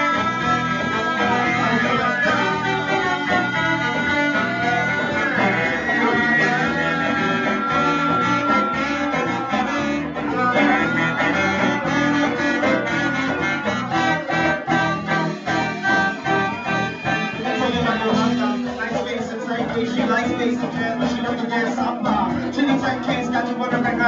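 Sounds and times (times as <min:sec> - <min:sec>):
guitar: 0:00.0 - 0:24.0
live band playing: 0:00.0 - 0:24.0.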